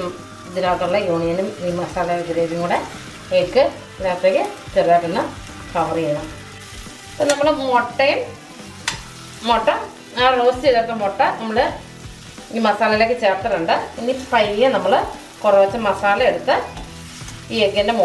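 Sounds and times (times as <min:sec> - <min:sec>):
faint frying sizzle: 0:00.0 - 0:18.0.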